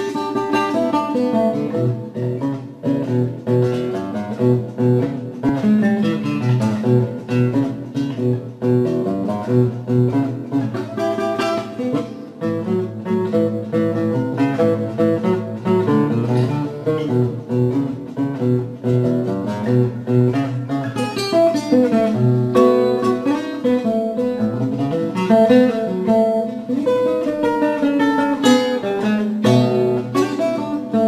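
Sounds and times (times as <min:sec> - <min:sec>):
acoustic guitar playing blues: 0:00.0 - 0:31.0.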